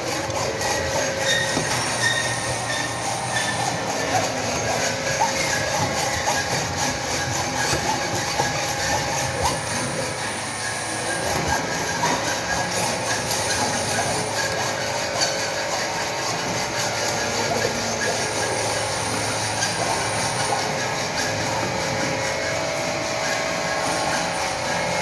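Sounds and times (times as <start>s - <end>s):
machine hiss and high whine: 0.0s - 25.0s
metal squealing: 0.0s - 25.0s.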